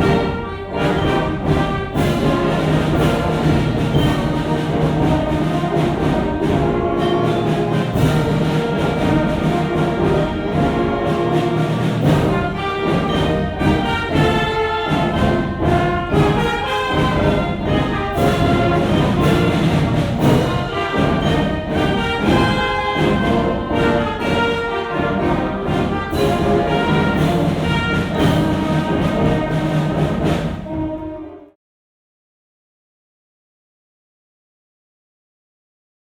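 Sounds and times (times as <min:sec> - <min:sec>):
orchestral music with brass: 0:00.0 - 0:31.6.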